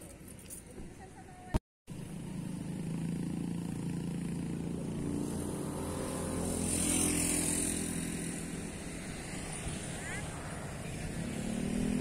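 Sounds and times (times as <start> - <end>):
vehicle engine passing by: 2.0 - 12.0.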